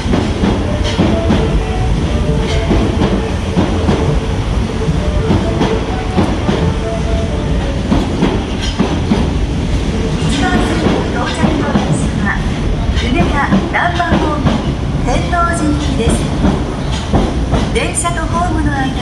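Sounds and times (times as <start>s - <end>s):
wheels clattering over rail joints: 0.0s - 18.0s
subway train running noise: 0.0s - 19.0s.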